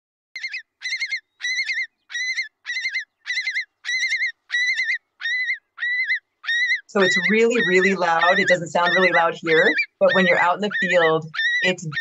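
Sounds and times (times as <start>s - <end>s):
curlew alarm call: 0.4s - 12.0s.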